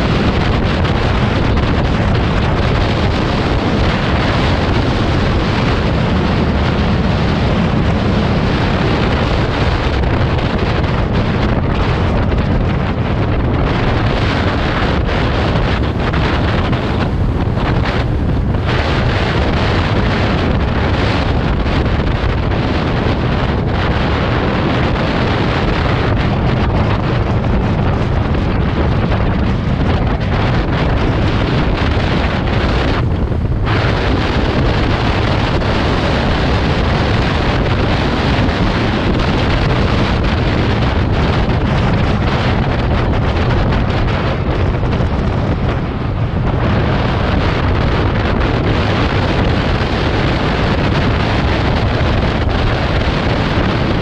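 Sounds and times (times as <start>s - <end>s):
low rumble: 0.0s - 54.0s
wind buffeting microphone: 0.0s - 54.0s.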